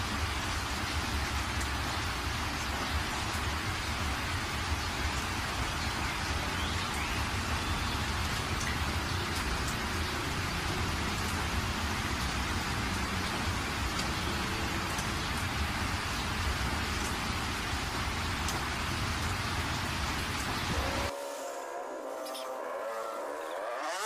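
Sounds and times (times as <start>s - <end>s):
rain drop ticks: 0.0s - 20.6s
steady rain hiss: 0.0s - 23.9s.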